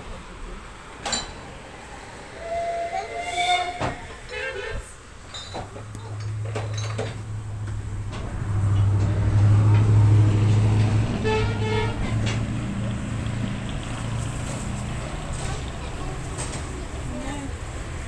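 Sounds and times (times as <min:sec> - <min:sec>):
vehicle humming: 0:00.0 - 0:18.0.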